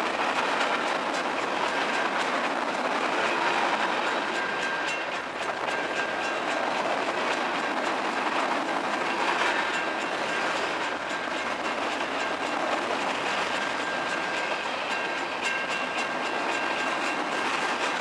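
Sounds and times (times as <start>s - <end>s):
train wheels rushing on rail: 0.0s - 18.0s.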